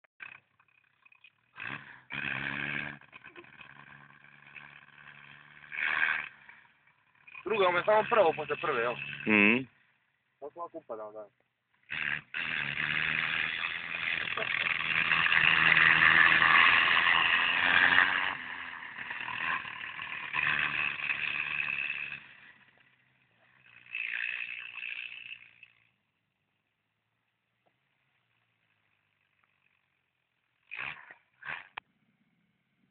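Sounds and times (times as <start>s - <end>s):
buggy engine running: 0.2s - 32.9s.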